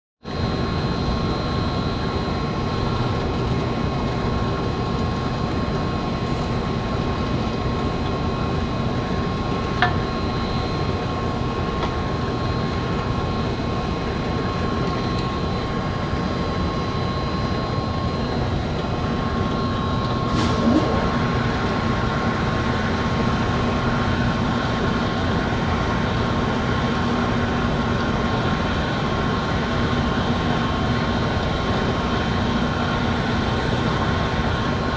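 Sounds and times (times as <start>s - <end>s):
drill press motor hum and whine: 0.3s - 34.9s.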